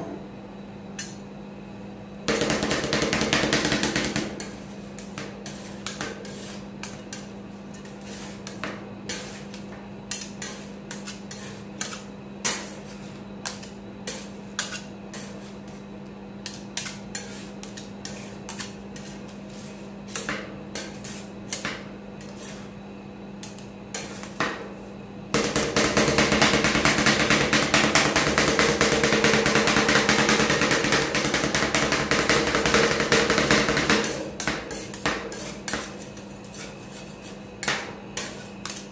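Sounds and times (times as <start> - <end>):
steady low hum: 0.0 - 38.9
spatulas tapping and scraping metal: 2.3 - 15.8, 16.4 - 22.7, 23.4 - 24.6, 25.4 - 38.9.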